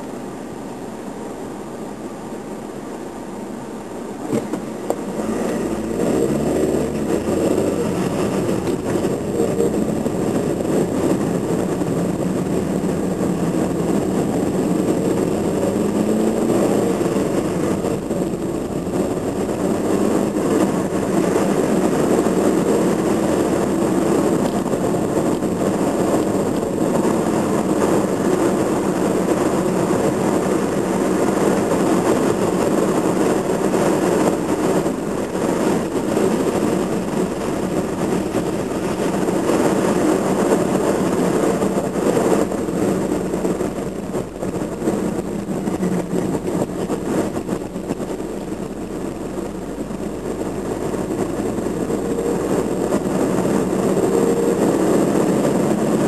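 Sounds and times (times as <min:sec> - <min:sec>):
tyre road noise: 0:00.0 - 0:56.0
car engine accelerating: 0:04.1 - 0:56.0.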